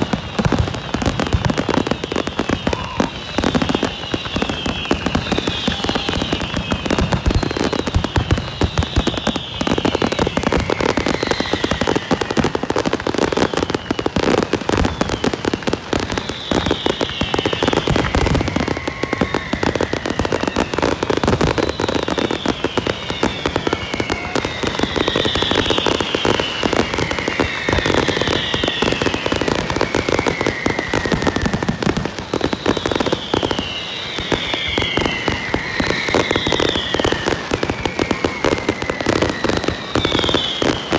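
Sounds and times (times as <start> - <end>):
falling fireworks whistles: 0.0 - 40.9
fireworks crackling and booming: 0.0 - 40.9.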